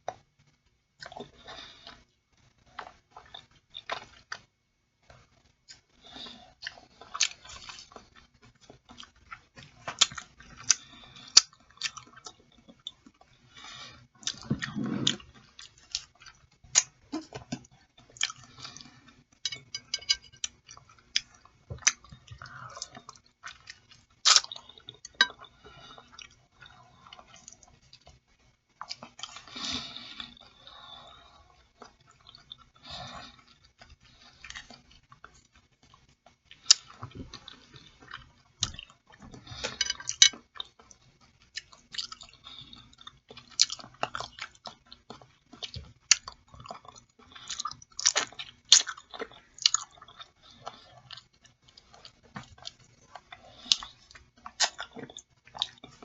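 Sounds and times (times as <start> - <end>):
chewing with wet clicks: 0.1 - 13.5, 14.2 - 29.6, 30.2 - 56.0.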